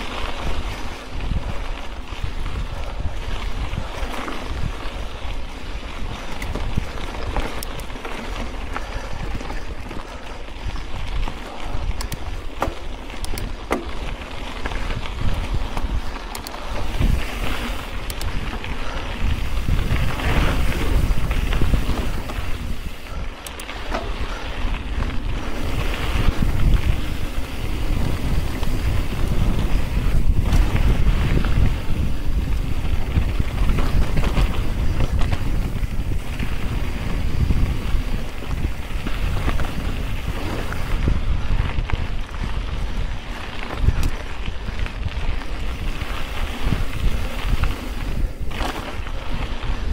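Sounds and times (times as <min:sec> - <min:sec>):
bike clicks and rattles: 0:00.0 - 0:49.9
tyres rolling on dirt trail: 0:00.0 - 0:49.9
wind buffeting microphone: 0:00.0 - 0:49.9.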